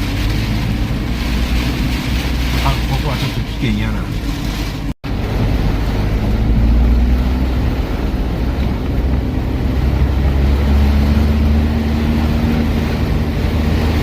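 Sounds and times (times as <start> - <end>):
car engine running: 0.0 - 14.0
storm wind and rain on car: 0.0 - 14.0.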